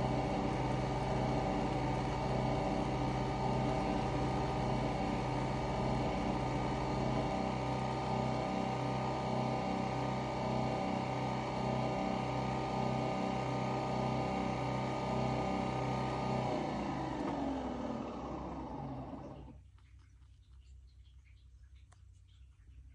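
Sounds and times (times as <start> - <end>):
coffee machine humming and pulsing: 0.0 - 19.7.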